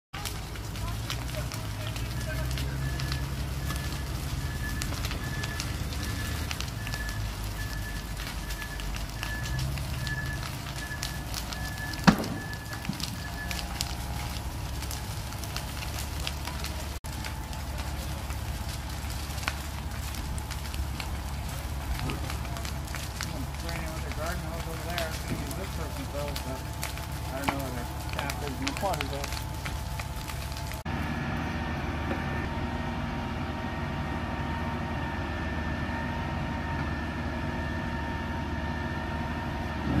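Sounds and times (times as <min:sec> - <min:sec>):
fire crackling and popping: 0:00.1 - 0:40.0
engine and pump droning: 0:00.2 - 0:40.0
low rumble: 0:00.2 - 0:40.0.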